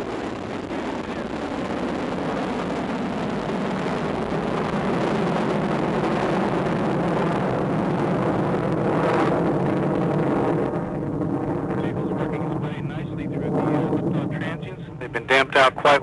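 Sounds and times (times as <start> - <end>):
rocket engine roaring: 0.0 - 16.0.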